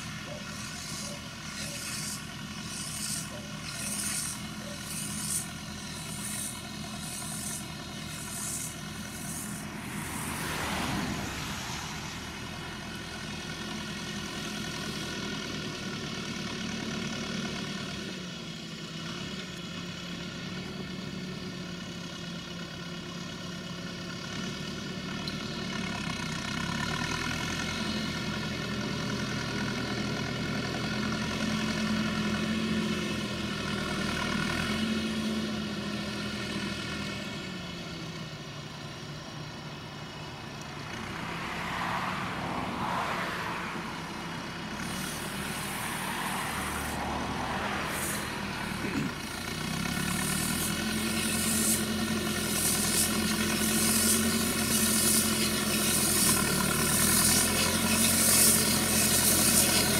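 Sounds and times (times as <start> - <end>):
tractor engine running: 0.0 - 43.1, 43.8 - 59.9.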